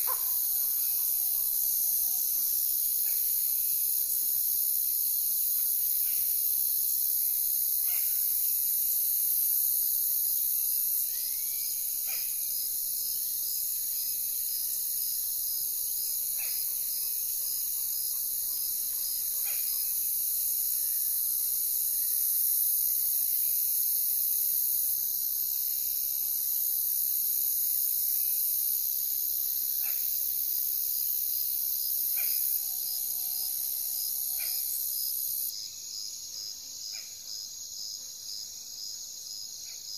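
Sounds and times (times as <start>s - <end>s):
insect chorus buzzing and chirping: 0.0s - 39.9s.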